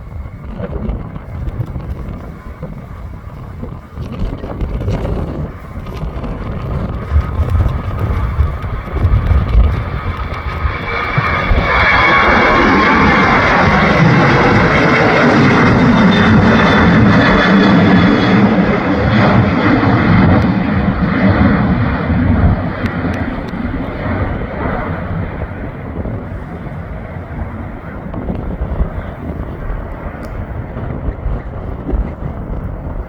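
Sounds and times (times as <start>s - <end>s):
jet engine whine: 0.0s - 33.0s
jet engines roaring: 0.0s - 33.0s
wind rumbling on microphone: 0.0s - 33.0s.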